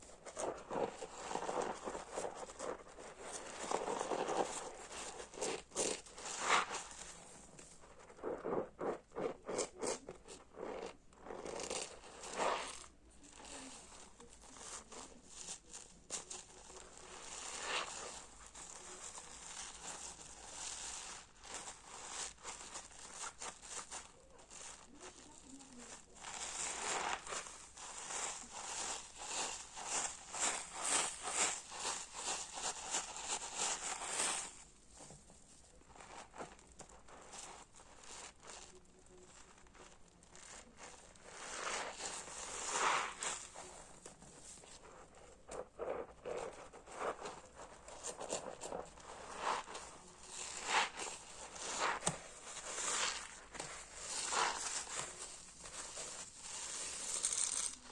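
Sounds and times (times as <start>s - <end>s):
soapy sponge squelching: 0.0s - 34.8s, 36.0s - 57.9s
foam crackling: 0.0s - 57.9s.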